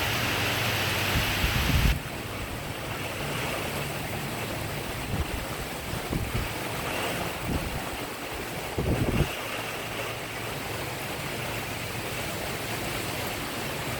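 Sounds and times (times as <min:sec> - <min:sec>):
rain pattering on roof tiles: 0:01.8 - 0:13.9.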